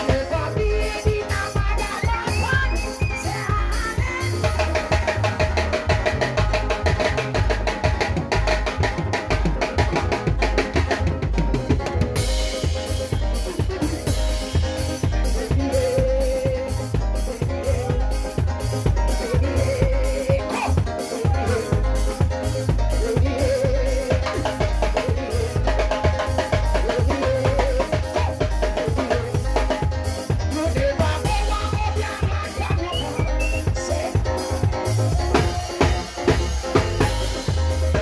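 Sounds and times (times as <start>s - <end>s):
electronic keyboard: 0.0s - 38.0s
live band playing: 0.0s - 38.0s.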